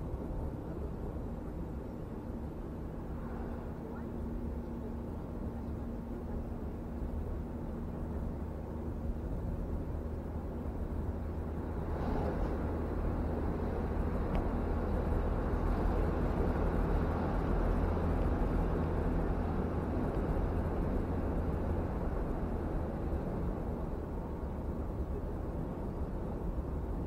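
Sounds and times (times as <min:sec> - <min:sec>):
car road and engine noise: 0:00.0 - 0:27.0
oncoming traffic passing: 0:02.3 - 0:27.0.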